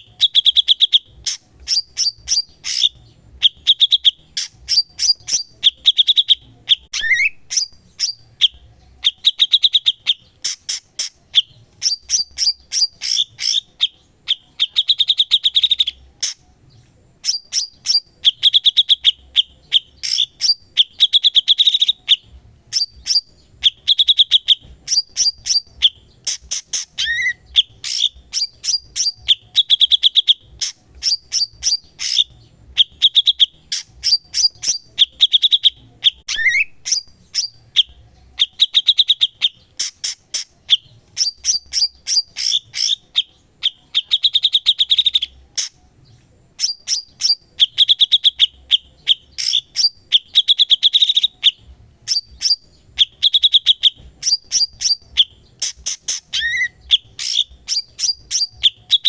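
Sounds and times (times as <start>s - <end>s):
buzzy bird trills: 0.0s - 16.4s, 17.2s - 45.8s, 46.5s - 59.0s
bird singing sharp chips: 0.0s - 59.0s.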